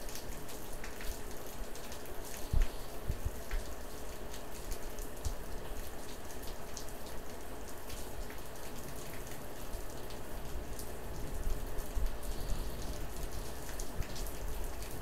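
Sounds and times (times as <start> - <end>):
faint steady hum: 0.0 - 15.0
steady rain falling: 0.0 - 15.0.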